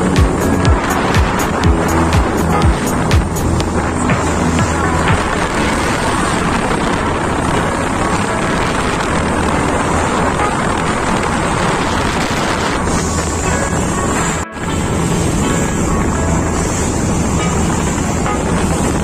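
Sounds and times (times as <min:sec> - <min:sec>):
boat engine droning: 0:00.0 - 0:19.0
water rushing along hull: 0:00.0 - 0:19.0
wind on microphone: 0:00.0 - 0:19.0.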